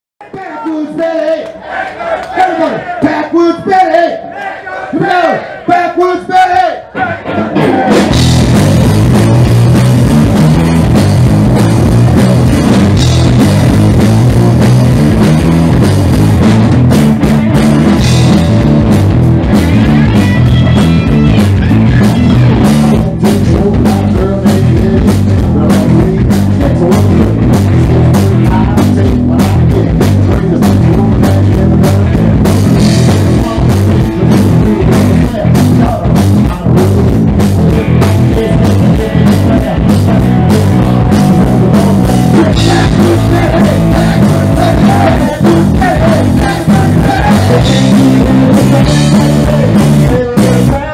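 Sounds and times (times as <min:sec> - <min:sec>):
rock band playing: 0:06.0 - 0:50.9.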